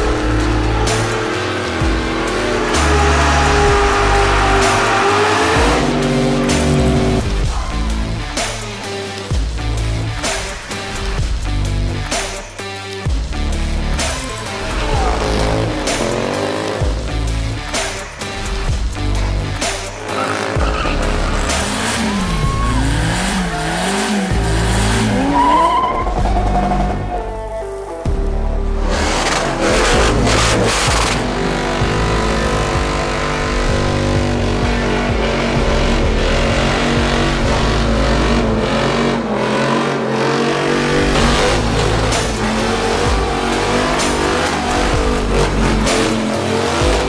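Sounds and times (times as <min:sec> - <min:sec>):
car engine revving: 0:00.0 - 0:12.2, 0:13.3 - 0:27.5, 0:28.2 - 0:47.0
background music: 0:00.0 - 0:47.0.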